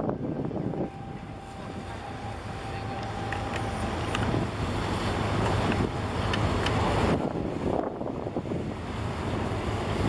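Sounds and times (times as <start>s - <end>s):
boat engines rumbling: 0.0s - 10.0s
wind on microphone: 0.0s - 10.0s.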